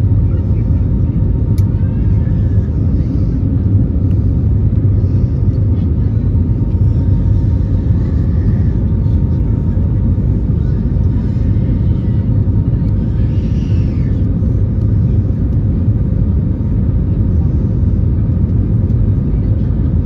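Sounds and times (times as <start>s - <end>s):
faint steady hum: 0.0s - 20.0s
jet engine rumble in cabin: 0.0s - 20.0s.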